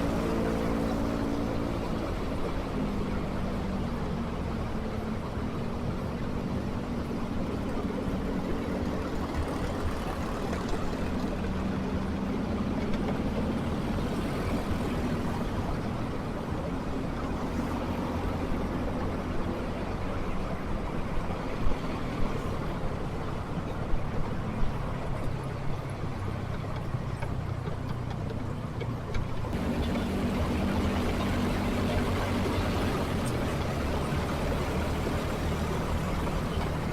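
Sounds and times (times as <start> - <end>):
road and wind noise: 0.0 - 36.9.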